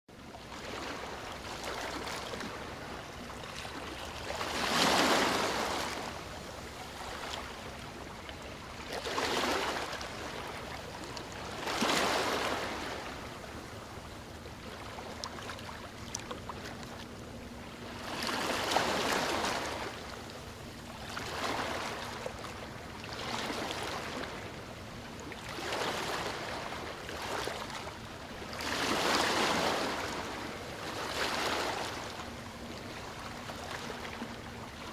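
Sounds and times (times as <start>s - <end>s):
waves breaking on shore: 0.4s - 34.9s.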